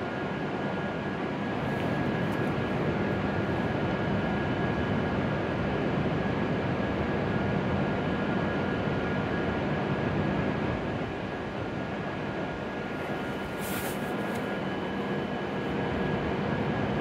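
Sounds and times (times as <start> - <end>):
train equipment whirring hum: 0.0 - 17.0.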